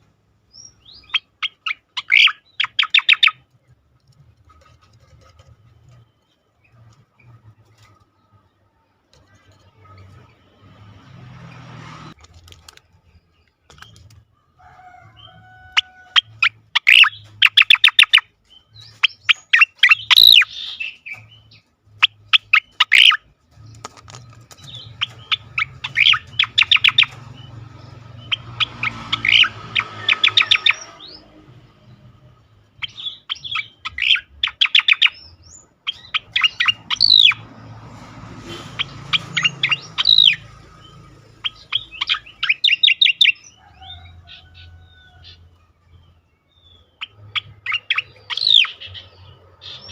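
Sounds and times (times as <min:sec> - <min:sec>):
bird singing rapid sharp notes: 0:00.4 - 0:14.2, 0:16.2 - 0:37.6, 0:38.7 - 0:49.9.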